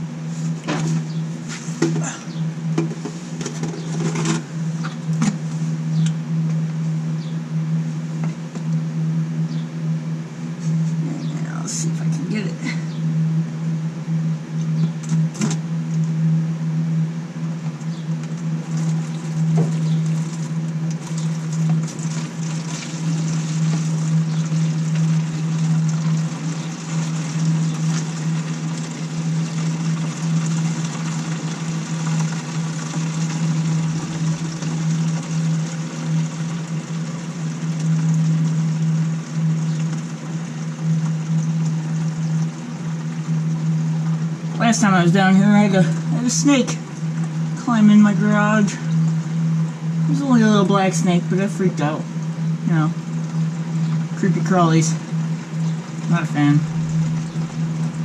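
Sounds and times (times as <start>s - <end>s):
loud mechanical hum: 0.0s - 58.0s.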